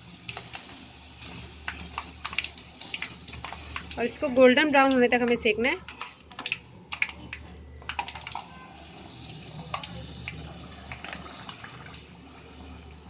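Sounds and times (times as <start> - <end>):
sharp crackles in oil: 0.0 - 12.8
deep-frying sizzle in oil: 0.0 - 13.0.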